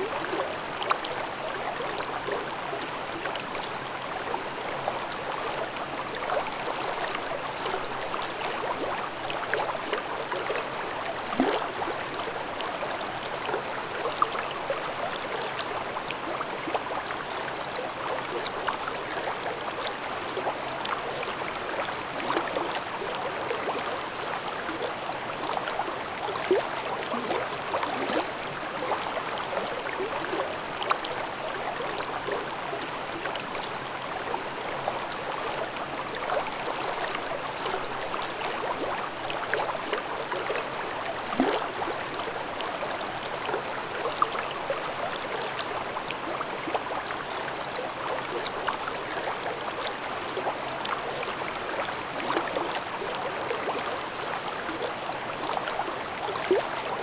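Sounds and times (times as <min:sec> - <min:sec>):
stream babbling over rocks: 0:00.1 - 0:57.0.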